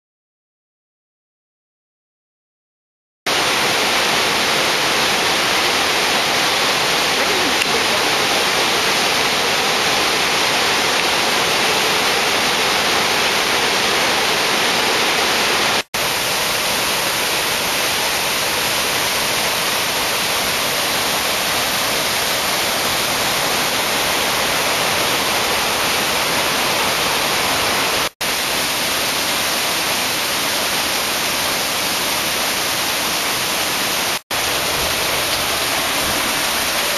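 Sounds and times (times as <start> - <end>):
waterfall rushing: 3.3 - 36.9.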